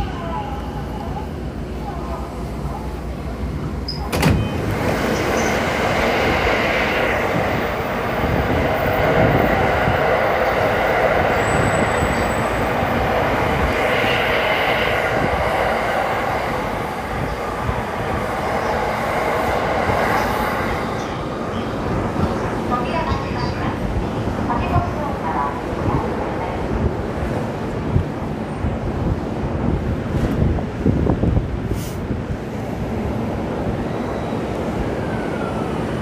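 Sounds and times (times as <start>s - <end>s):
train wheels rolling on rail: 1.4s - 34.9s.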